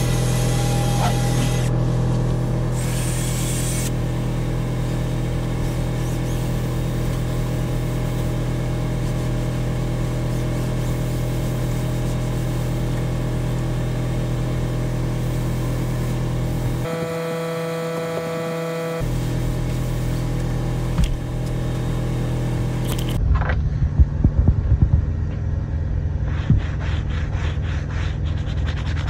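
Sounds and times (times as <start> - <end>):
low machine hum: 0.0 - 28.3.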